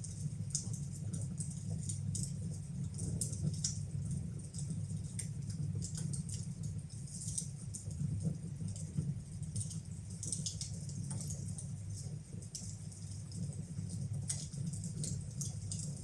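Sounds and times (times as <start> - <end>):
fire crackling and popping: 0.0 - 16.0
low fire rumble: 0.0 - 16.0.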